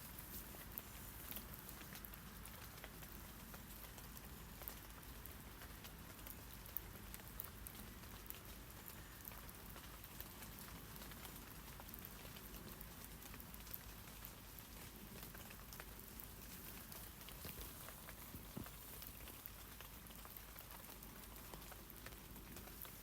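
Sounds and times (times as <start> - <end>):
rain falling on leaves: 0.0 - 23.0.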